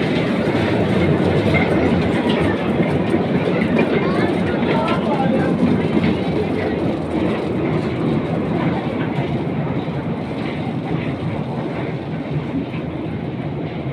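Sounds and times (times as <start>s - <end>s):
mini train rumbling on rails: 0.0s - 13.9s.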